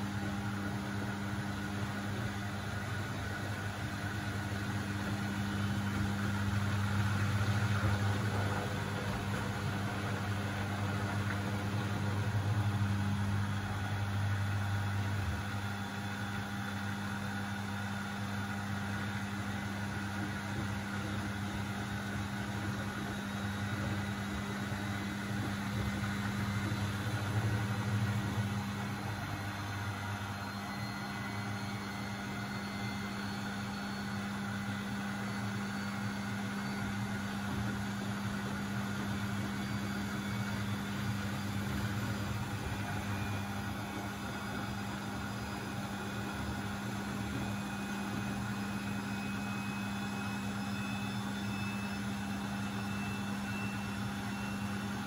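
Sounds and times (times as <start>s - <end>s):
washing machine hum: 0.0s - 55.0s.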